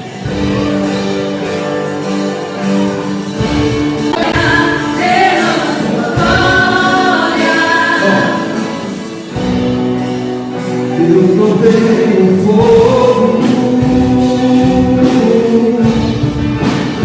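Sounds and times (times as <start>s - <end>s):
voices singing worship song: 0.0s - 17.0s.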